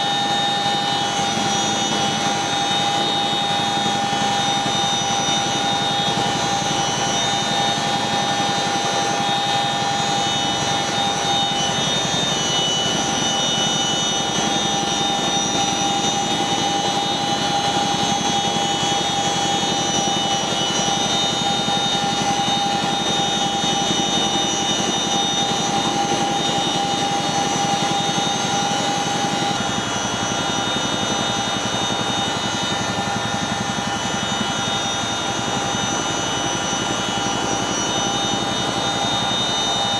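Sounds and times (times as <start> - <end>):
helicopter engine whine: 0.0 - 39.9.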